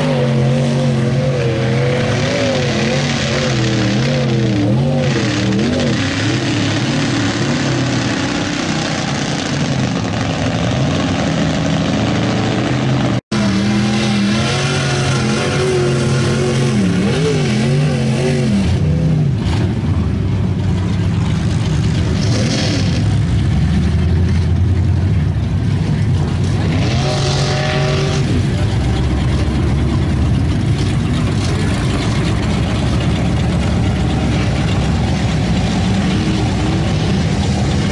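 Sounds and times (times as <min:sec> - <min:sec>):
truck engine revving: 0:00.0 - 0:37.9
tyres churning through mud: 0:00.0 - 0:37.9.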